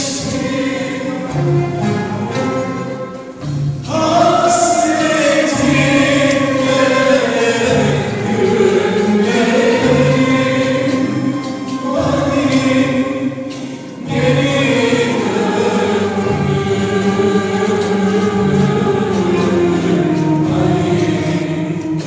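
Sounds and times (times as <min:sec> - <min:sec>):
instrumental accompaniment: 0:00.0 - 0:22.0
voices singing ornamented lines: 0:00.0 - 0:22.0.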